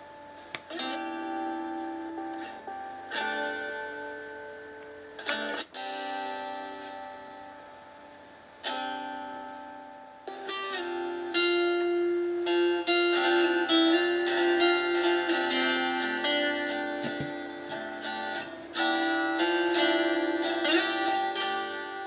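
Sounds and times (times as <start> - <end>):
guitar playing: 0.0 - 22.0.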